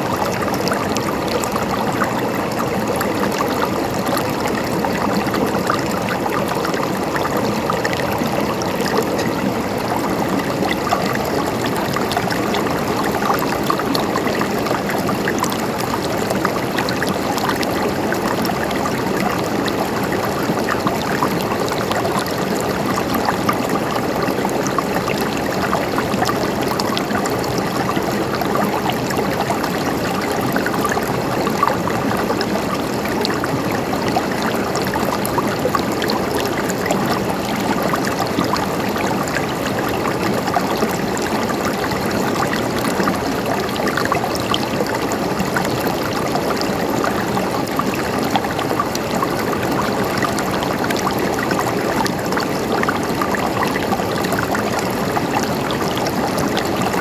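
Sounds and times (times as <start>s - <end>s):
mountain stream babbling: 0.0s - 57.0s.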